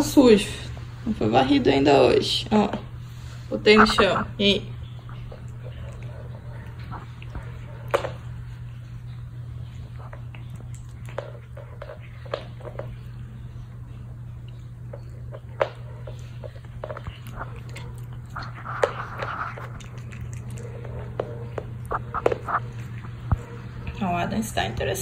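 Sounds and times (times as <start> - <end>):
steady low hum: 0.0 - 25.0
cat licking and smacking: 3.8 - 24.0.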